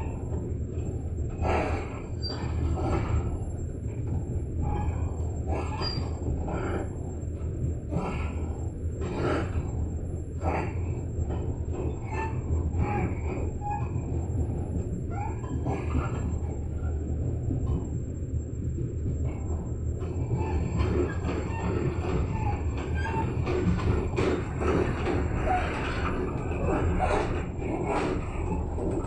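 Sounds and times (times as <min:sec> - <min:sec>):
train gangway squeaking and creaking: 0:00.0 - 0:29.0.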